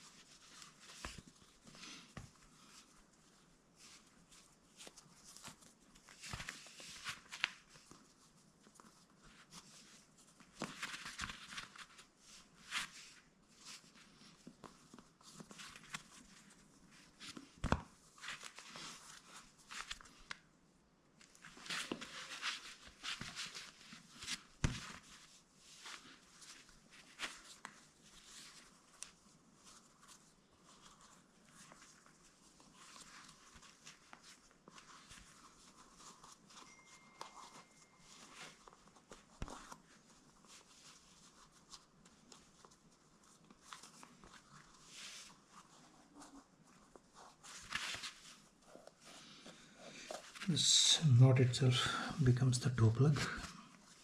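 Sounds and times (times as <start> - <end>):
rustling of laces: 0.0 - 51.8.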